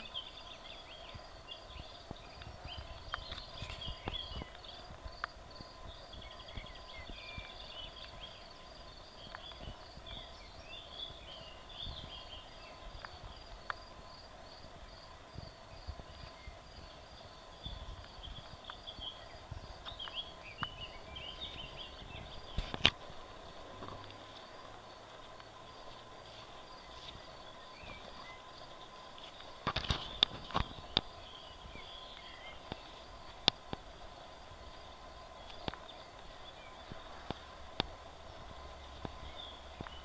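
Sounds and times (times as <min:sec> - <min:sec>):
songbirds chirping: 0:00.0 - 0:40.0
footsteps on grassy path: 0:00.1 - 0:40.0.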